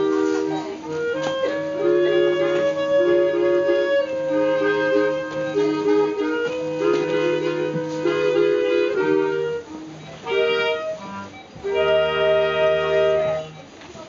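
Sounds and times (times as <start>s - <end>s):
clarinet ensemble playing chords: 0.0s - 13.8s.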